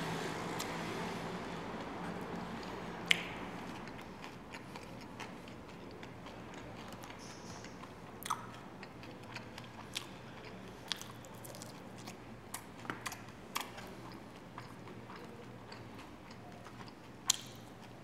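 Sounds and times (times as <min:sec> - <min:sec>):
person chewing fried chicken: 0:02.6 - 0:18.0.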